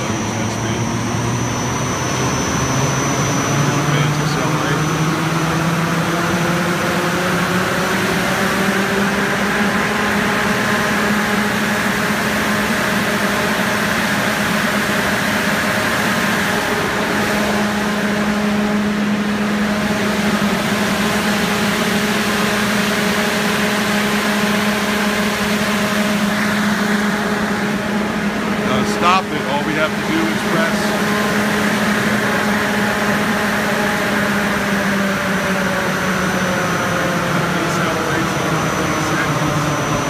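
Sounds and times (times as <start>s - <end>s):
large electric fans speeding up: 0.0s - 40.0s.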